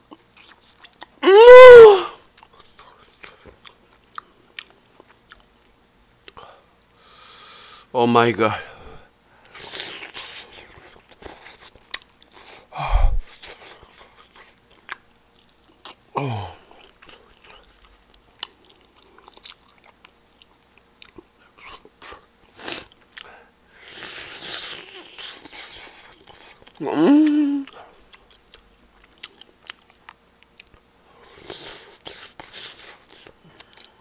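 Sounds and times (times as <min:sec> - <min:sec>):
person chewing: 0:00.0 - 0:01.2, 0:02.2 - 0:05.5, 0:09.5 - 0:34.0.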